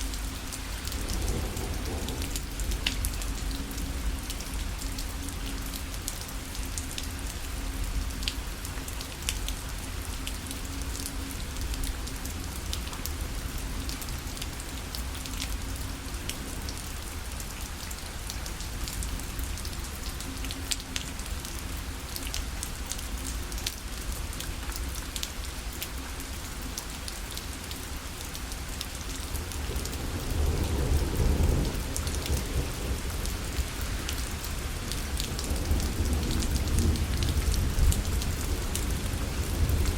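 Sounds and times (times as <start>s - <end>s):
rain pattering on a parasol: 0.0s - 39.9s.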